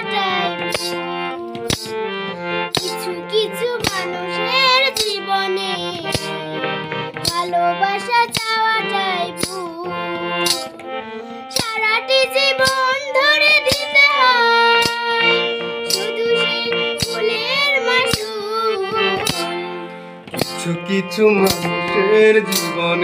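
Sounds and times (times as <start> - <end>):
girl singing: 0.0 - 2.1, 2.7 - 20.5
backing music with steady beat: 0.0 - 23.0.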